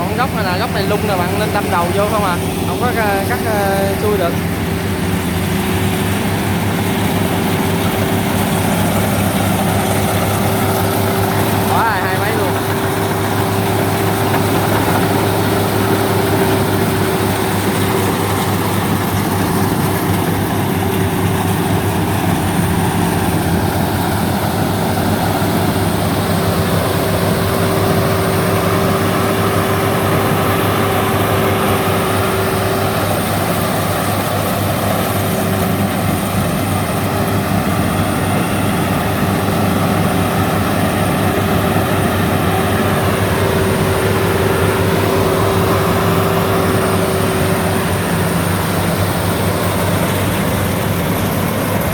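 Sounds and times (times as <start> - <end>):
combine harvester engine drone: 0.0 - 51.9
constant whine: 0.0 - 51.9.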